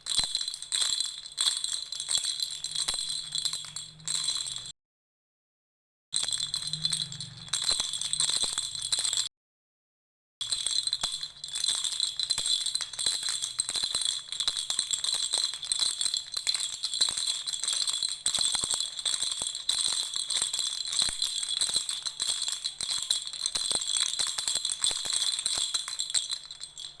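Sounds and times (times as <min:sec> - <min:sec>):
baby rattle shaking: 0:00.0 - 0:04.7, 0:06.2 - 0:09.2, 0:10.4 - 0:27.0.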